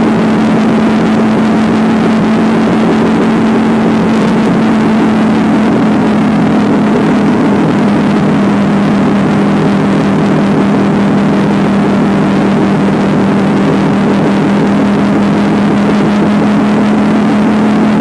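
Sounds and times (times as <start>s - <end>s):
motorcycle engine cruising: 0.0s - 18.0s
wind rushing: 0.0s - 18.0s.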